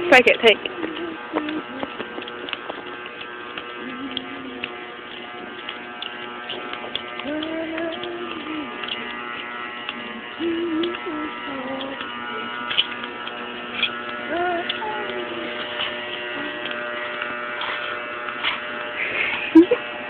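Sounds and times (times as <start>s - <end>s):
steady electrical buzz: 0.0s - 20.0s
sharp clicks: 0.5s - 19.0s.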